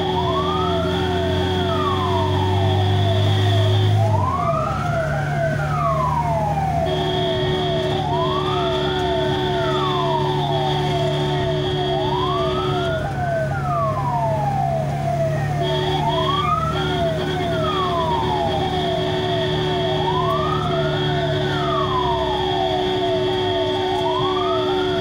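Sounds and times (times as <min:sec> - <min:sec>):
ambulance siren wailing: 0:00.0 - 0:25.0
rapid rising siren chirp: 0:00.0 - 0:25.0
steady siren tone: 0:00.0 - 0:25.0.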